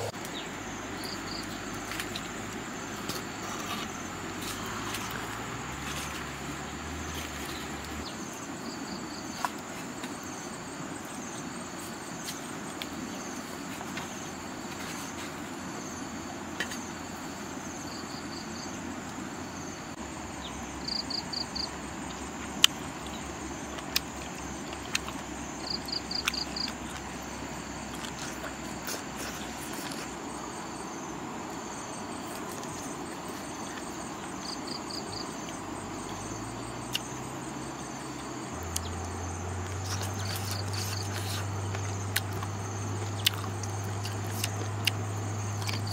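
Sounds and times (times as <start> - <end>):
insect chirping trills: 0.0 - 45.9.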